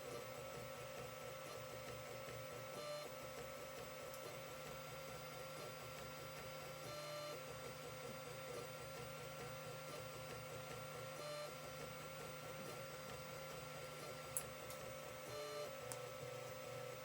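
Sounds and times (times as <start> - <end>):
printer stepper motors whining: 0.0 - 17.0.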